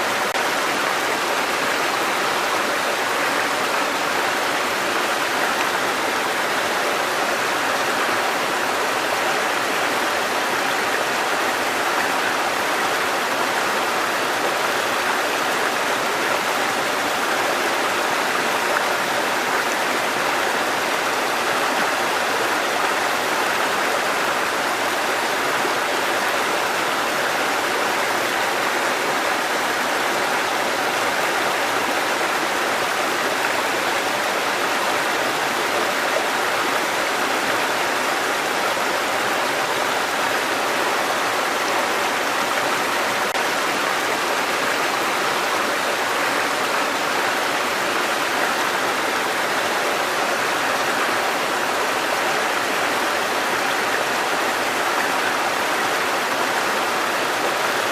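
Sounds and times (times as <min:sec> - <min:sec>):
water cascading over rocks: 0:00.0 - 0:57.9.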